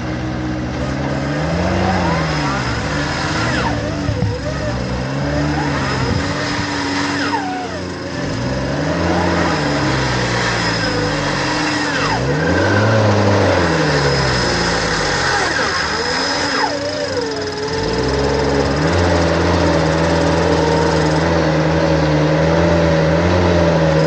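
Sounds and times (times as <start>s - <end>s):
off-road engine revving: 0.0s - 24.0s.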